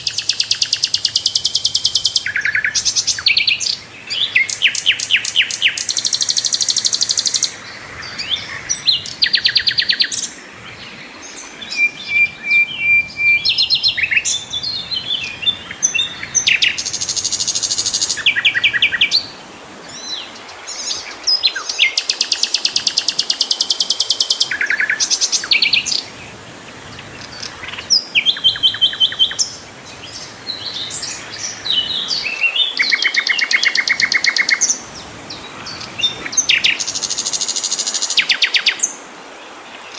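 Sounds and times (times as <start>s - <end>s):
bird singing buzzy trills: 0.0s - 39.0s.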